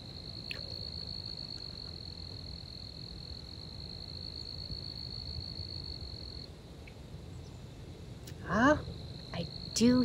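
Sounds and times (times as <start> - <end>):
high-pitched cricket trill: 0.0 - 6.6, 8.2 - 10.0.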